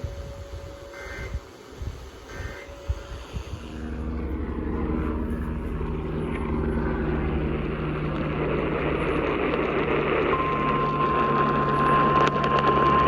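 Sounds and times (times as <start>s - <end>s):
engine drone: 0.0s - 13.0s
low steady hums: 0.0s - 13.0s.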